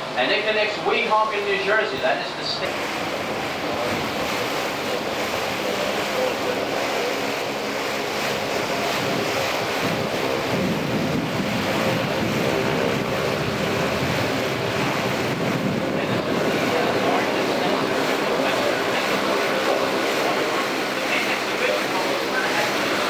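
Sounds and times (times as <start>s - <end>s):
faint engine hum: 0.0s - 23.0s
water rushing past boat hull: 0.0s - 23.0s
wind buffeting microphone: 2.7s - 23.0s.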